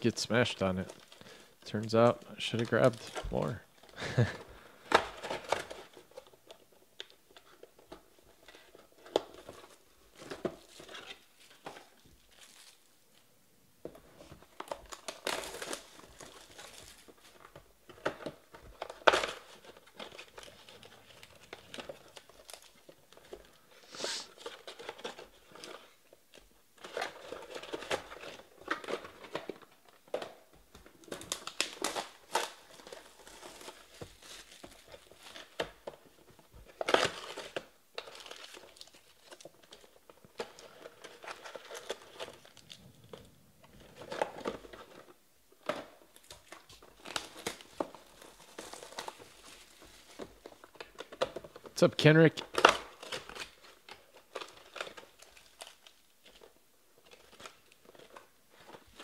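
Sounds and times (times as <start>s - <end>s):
plastic shrink wrap crinkling: 0.0s - 13.3s, 13.9s - 59.0s.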